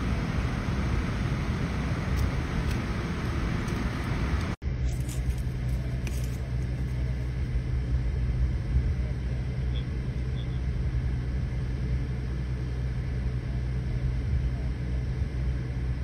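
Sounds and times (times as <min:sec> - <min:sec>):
outdoor noise: 0:00.0 - 0:16.0
vehicle engine idling: 0:00.0 - 0:16.0.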